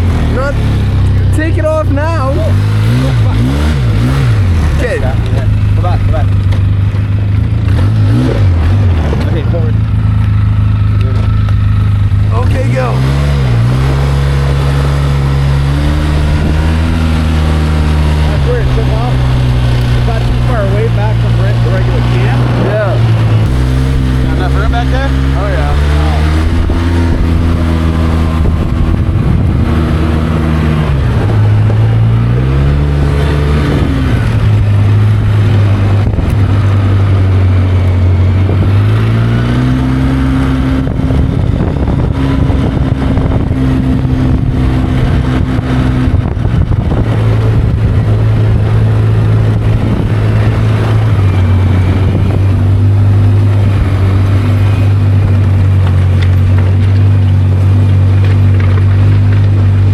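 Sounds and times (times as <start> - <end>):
rattling from rough road: 0.0 - 59.9
vehicle engine running: 0.0 - 59.9.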